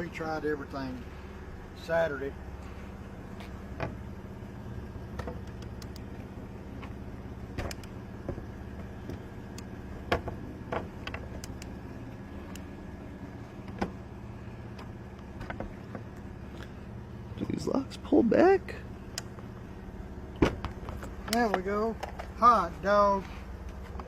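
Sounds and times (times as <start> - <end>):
vehicle running low hum: 0.0 - 24.0.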